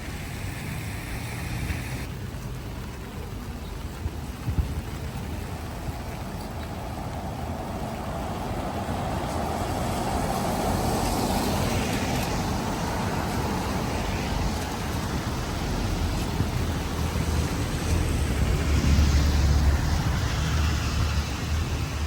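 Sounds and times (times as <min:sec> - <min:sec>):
steady low rumble: 0:00.0 - 0:22.0
vehicle passing on wet road: 0:00.0 - 0:22.0.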